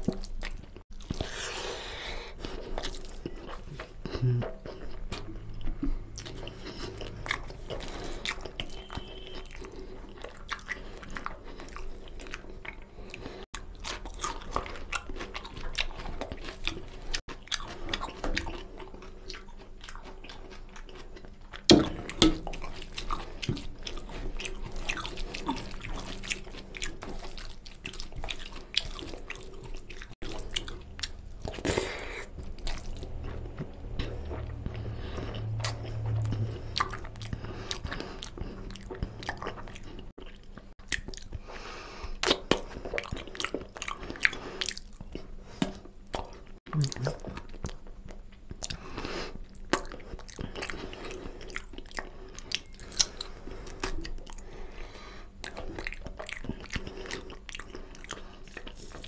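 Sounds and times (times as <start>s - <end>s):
person chewing and crunching: 0.0s - 59.0s.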